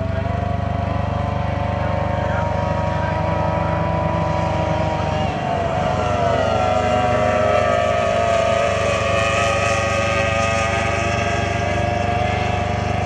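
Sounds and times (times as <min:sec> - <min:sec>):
outboard engines high whine: 0:00.0 - 0:13.0.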